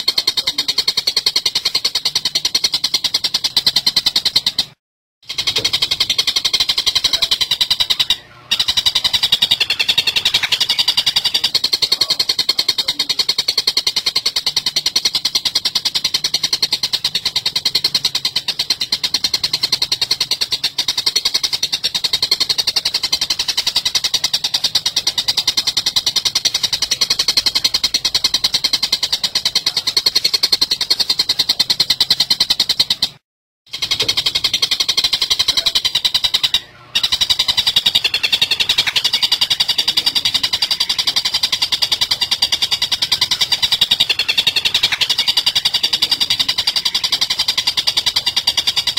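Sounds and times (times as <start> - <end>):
bird rattling chatter: 0.0 - 48.9.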